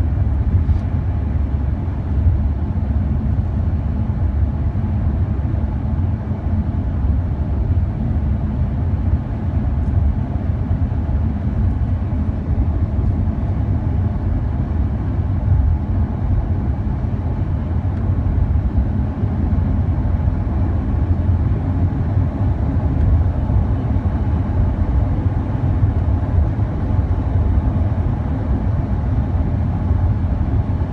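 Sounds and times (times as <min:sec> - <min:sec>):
car engine and road noise: 0:00.0 - 0:30.9.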